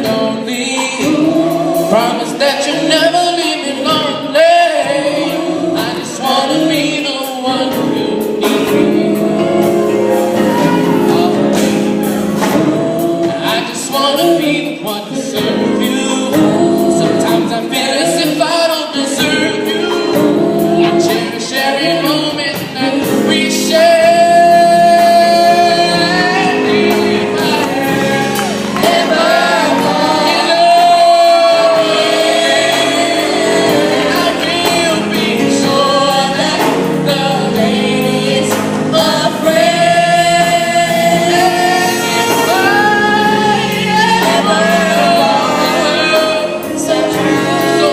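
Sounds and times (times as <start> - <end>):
vocal group singing in harmony: 0.0 - 47.9.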